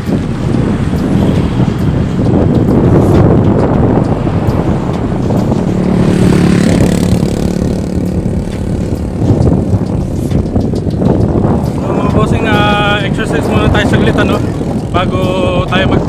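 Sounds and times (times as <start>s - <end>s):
vehicle engine passing: 0.0s - 16.0s
wind buffeting microphone: 0.0s - 16.0s.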